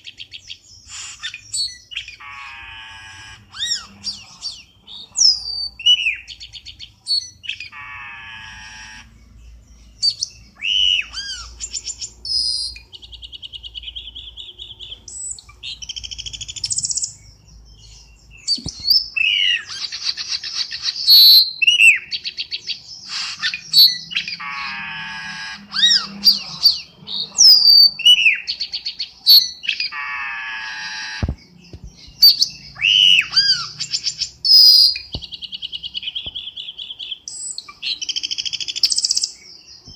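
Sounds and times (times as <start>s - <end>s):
bird whistling and trilling: 0.0s - 9.1s, 10.0s - 17.2s, 18.4s - 39.9s
harsh grating bird call: 0.0s - 17.1s, 17.8s - 39.0s.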